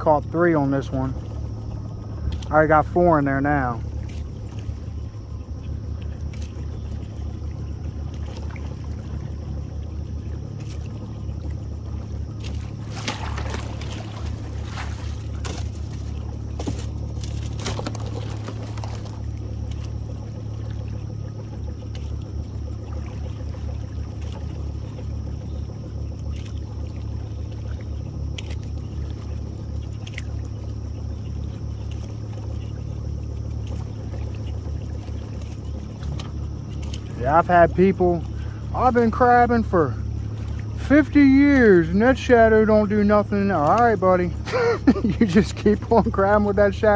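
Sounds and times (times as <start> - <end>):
boat motor humming: 0.0 - 46.9
water splashing and trickling: 0.0 - 46.9.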